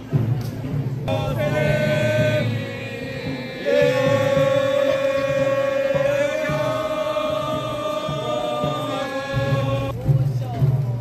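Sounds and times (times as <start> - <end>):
long chanted call: 1.1 - 9.9.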